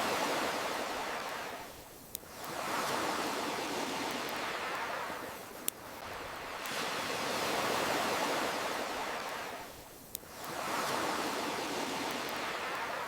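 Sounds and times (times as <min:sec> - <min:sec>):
ocean waves washing: 0:00.0 - 0:13.0.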